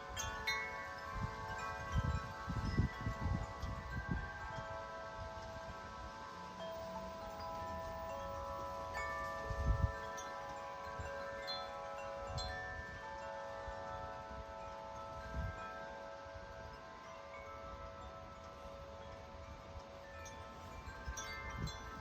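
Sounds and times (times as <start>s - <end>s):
wind buffeting microphone: 0.0s - 6.2s, 7.1s - 22.0s
wind chime ringing: 0.0s - 22.0s.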